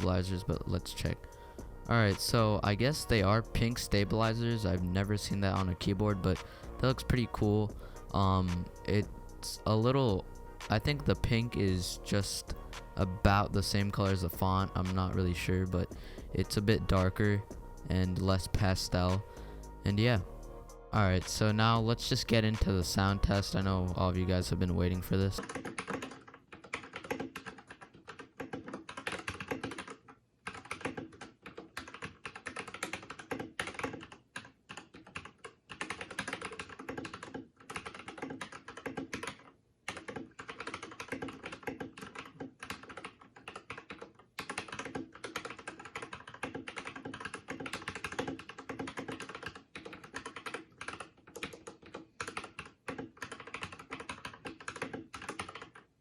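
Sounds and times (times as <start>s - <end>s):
mechanical keyboard typing: 2.1s - 17.4s, 21.1s - 55.9s.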